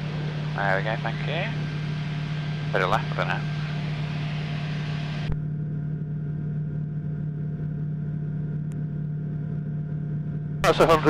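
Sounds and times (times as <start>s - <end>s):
aircraft engine and propeller drone: 0.0s - 9.3s, 10.6s - 11.0s.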